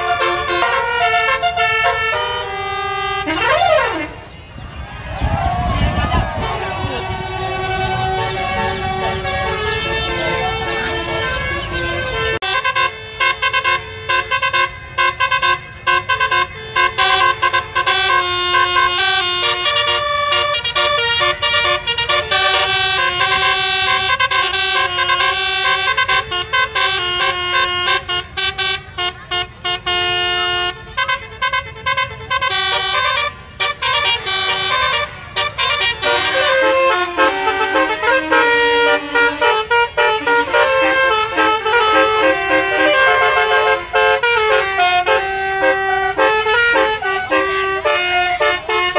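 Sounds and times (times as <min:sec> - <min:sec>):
musical bus horns playing melodies: 0:00.0 - 0:04.8, 0:05.9 - 0:48.9.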